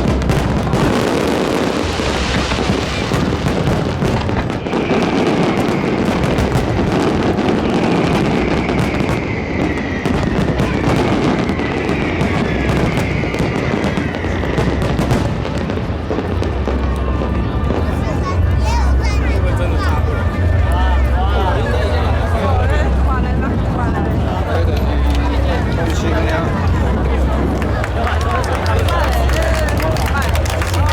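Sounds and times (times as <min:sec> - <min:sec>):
fireworks bursts and crackling: 0:00.0 - 0:30.9.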